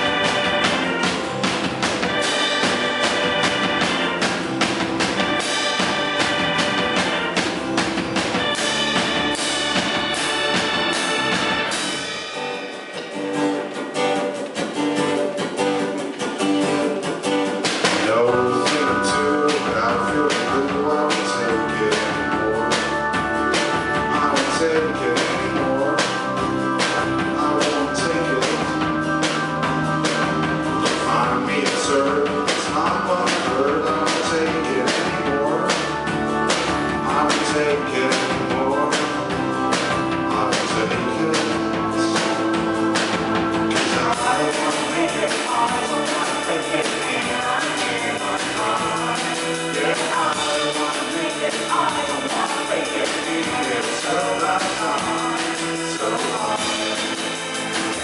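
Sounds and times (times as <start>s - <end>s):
guitar: 0.0s - 58.0s
live band playing: 0.0s - 58.0s.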